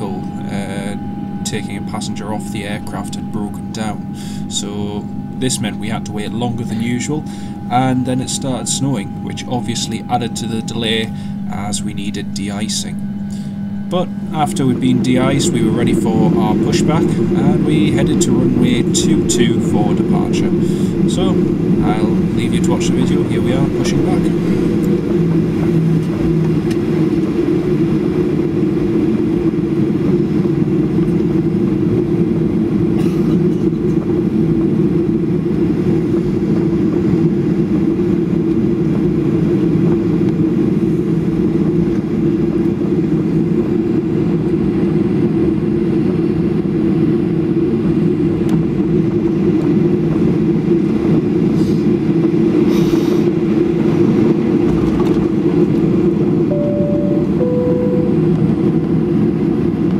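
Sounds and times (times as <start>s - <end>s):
aircraft cabin low drone: 0.0s - 59.9s.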